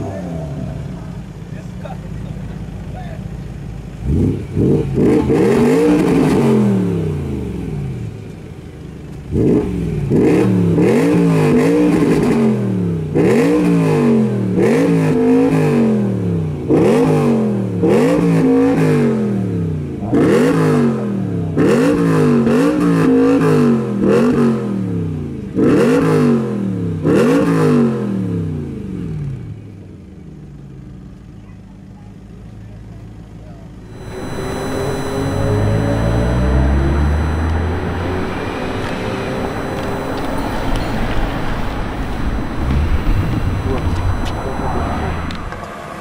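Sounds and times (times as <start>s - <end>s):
car engine revving: 0.0s - 29.7s, 33.7s - 46.0s.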